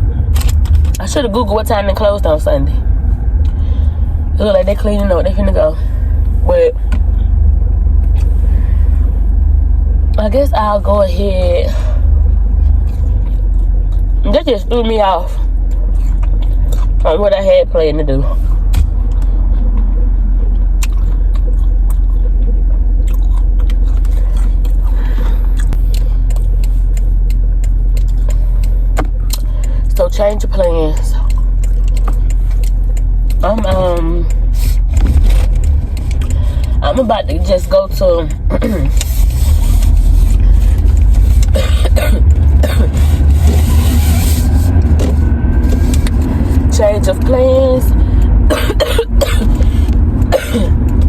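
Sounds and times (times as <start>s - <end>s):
car rumble inside cabin: 0.0s - 51.0s.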